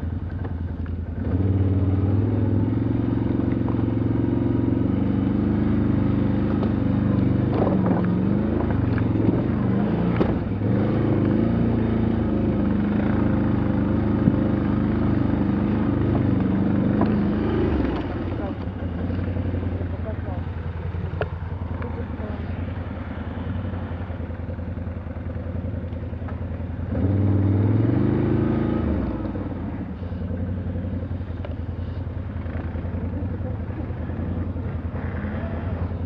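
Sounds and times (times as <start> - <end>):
vehicle engine revving: 1.1 - 36.0.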